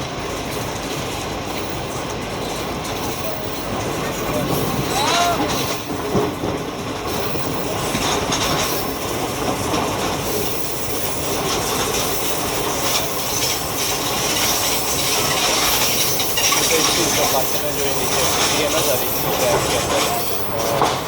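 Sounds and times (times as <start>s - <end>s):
rail joint clicks: 0.0s - 21.0s
train wheels rumbling: 0.0s - 21.0s.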